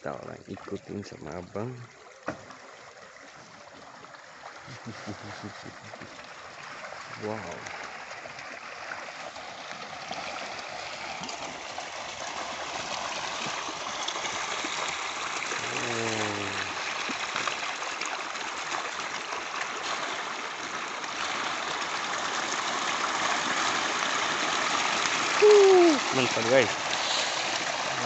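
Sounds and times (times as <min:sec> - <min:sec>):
fish thrashing and splashing: 0:04.5 - 0:28.0.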